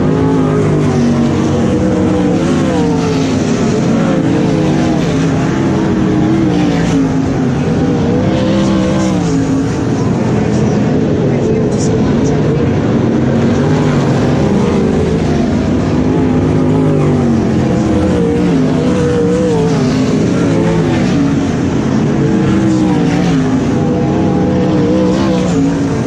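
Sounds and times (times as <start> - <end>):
race car engines lapping: 0.0 - 26.0.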